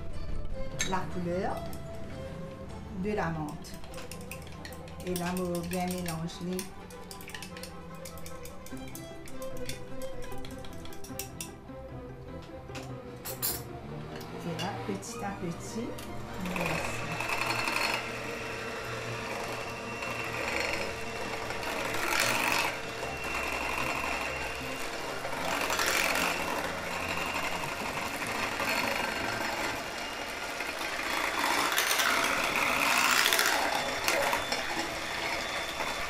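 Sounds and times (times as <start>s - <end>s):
electric hand mixer whisking: 1.5s - 11.6s, 12.7s - 36.0s.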